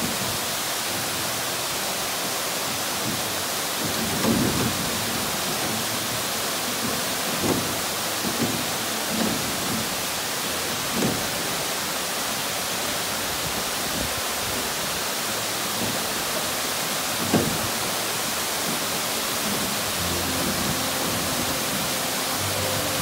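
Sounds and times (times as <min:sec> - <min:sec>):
waterfall rushing into pool: 0:00.0 - 0:23.0.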